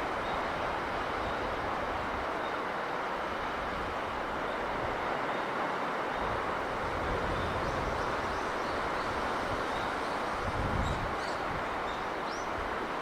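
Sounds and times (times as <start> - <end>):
sea breeze: 0.0 - 13.0
sea rushing: 0.0 - 13.0.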